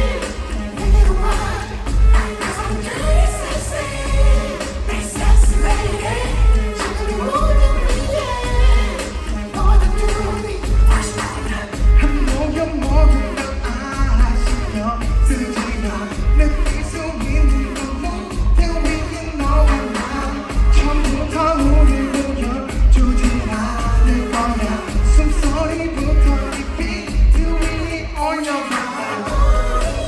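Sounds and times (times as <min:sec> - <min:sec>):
heavy pulsing bass beat: 0:00.0 - 0:28.2, 0:29.3 - 0:30.0
person singing: 0:00.0 - 0:30.0.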